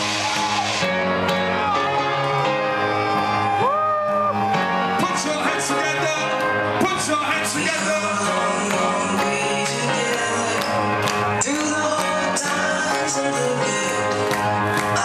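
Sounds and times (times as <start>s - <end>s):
dance music: 0.0s - 15.0s.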